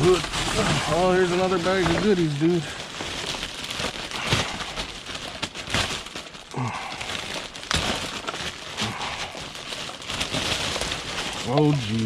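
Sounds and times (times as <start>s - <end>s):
items knocking together: 0.0s - 12.0s
plastic bag rustling: 0.0s - 12.0s.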